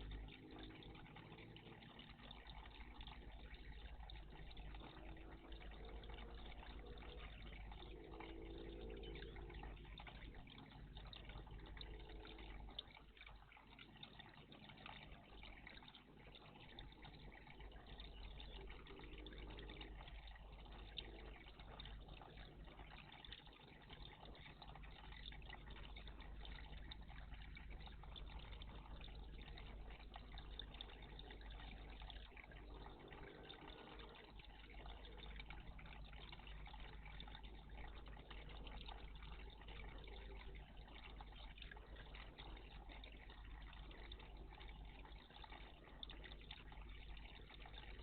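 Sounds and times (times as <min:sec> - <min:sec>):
faint trickling water: 0:00.0 - 0:48.0.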